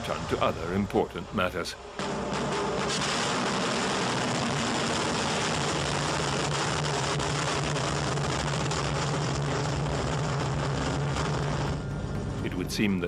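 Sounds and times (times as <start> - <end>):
low hum: 0.0 - 13.0
rocket motor roaring: 1.9 - 13.0.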